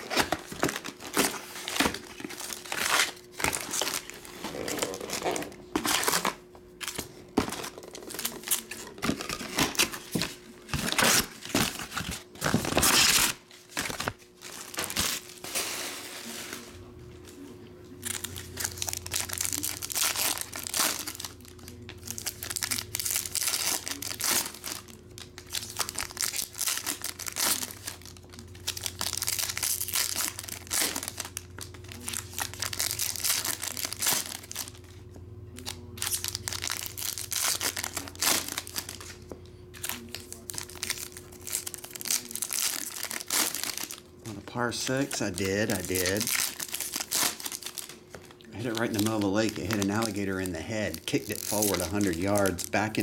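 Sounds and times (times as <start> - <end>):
foil packs crinkling: 0.0 - 16.8, 18.0 - 53.0.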